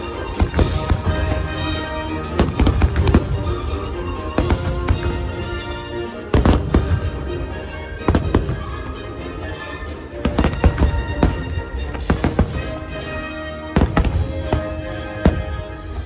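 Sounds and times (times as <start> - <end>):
fireworks exploding: 0.0 - 16.0
patriotic music: 0.0 - 16.0.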